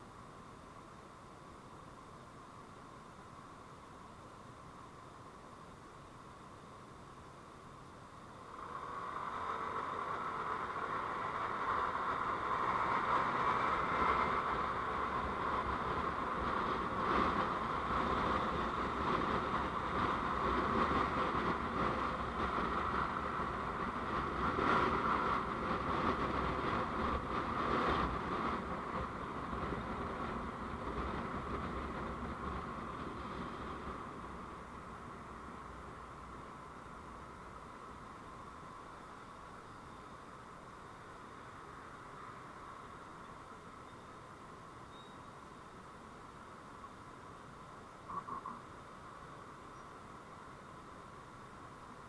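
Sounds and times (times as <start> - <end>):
rushing vehicle noise: 7.5 - 52.0.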